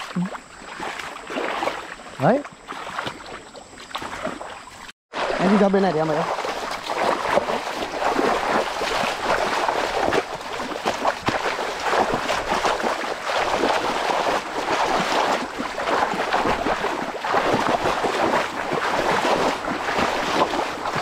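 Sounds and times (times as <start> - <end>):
feet wading through splashing water: 0.0 - 21.0.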